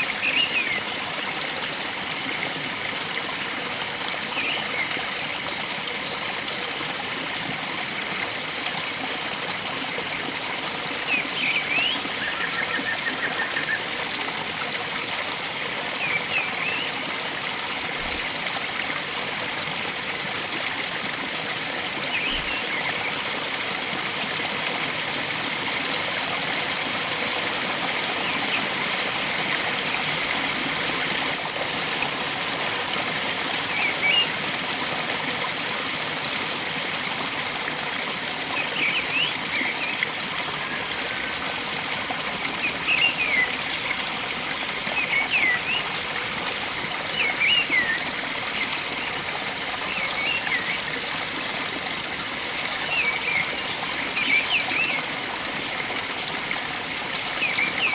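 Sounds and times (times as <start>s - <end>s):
water flowing: 0.0s - 57.9s.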